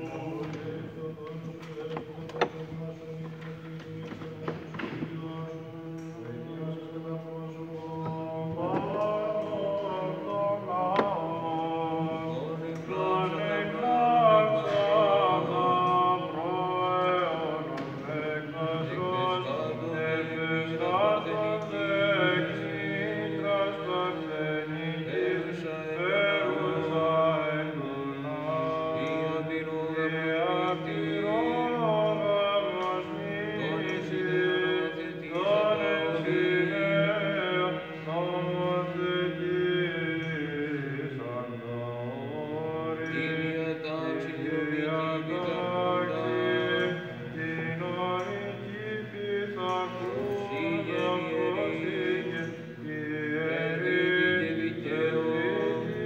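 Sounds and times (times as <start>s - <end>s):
monks chanting: 0.0s - 56.0s.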